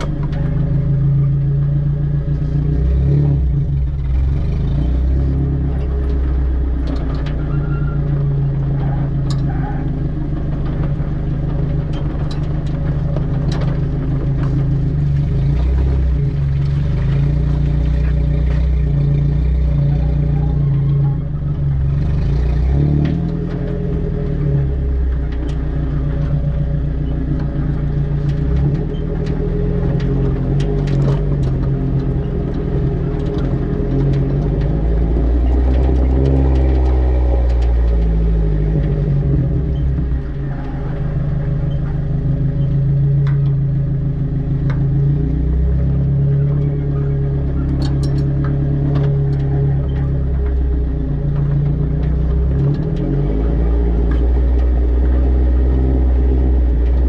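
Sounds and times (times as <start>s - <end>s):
tyres and suspension clattering: 0.0s - 57.0s
vehicle engine rumbling: 0.0s - 57.0s.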